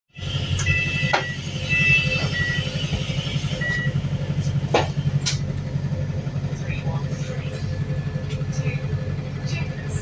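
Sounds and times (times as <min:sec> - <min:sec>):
bus engine throbbing: 0:00.1 - 0:10.0.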